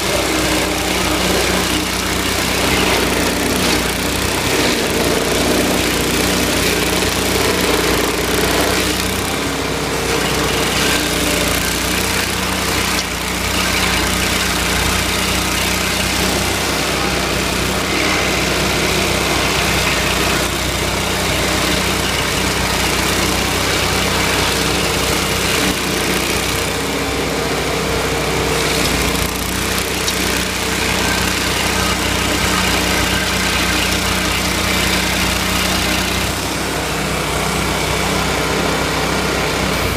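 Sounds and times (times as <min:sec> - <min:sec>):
cutter wheel grinding stump: 0:00.0 - 0:39.9
engine running loudly: 0:00.0 - 0:39.9.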